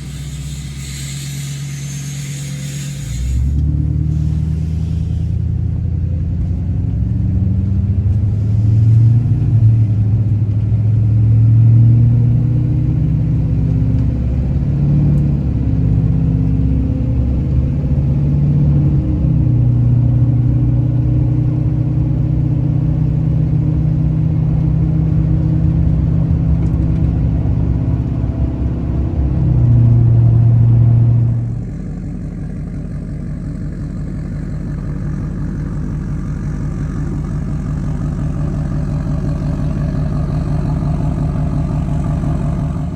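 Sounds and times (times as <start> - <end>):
diesel engine idling: 0.0 - 11.4, 12.4 - 42.9.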